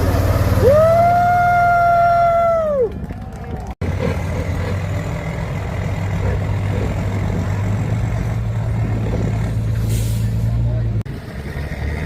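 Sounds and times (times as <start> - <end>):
truck engine low drone: 0.0 - 12.0.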